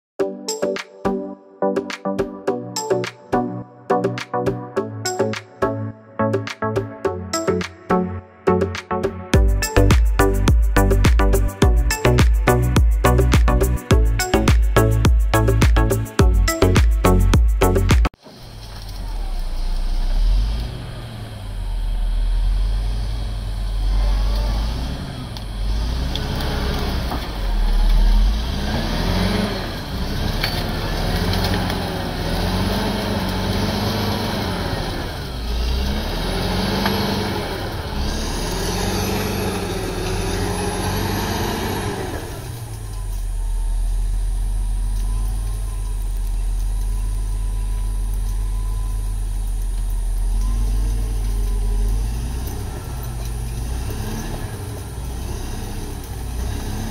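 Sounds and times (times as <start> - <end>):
bulldozer diesel engine under load: 9.4 - 56.9.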